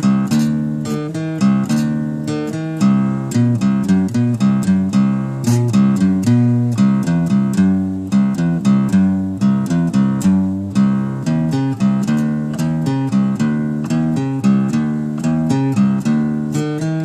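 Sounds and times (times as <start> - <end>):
guitar picking riff: 0.0 - 17.0.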